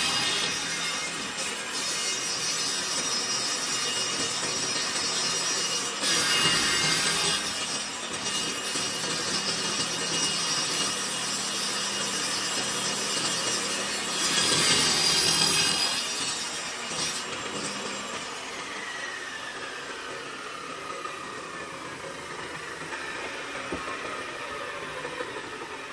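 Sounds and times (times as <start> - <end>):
table saw cutting plywood: 0.0 - 25.9.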